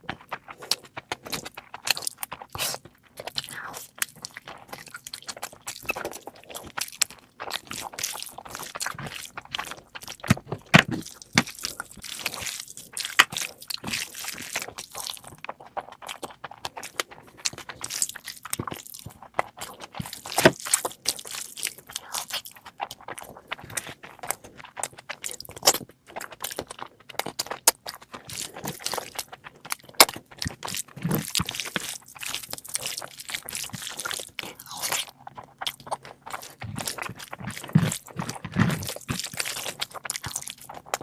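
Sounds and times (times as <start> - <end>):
person chewing crunchy food: 0.0 - 41.0.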